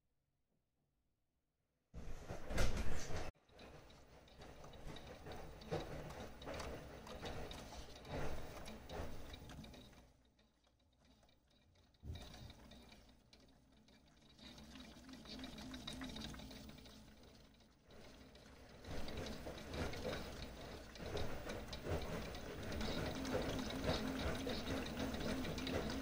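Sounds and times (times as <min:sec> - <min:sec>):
toy washing machine motor: 0:03.4 - 0:26.0
water sloshing: 0:03.6 - 0:26.0.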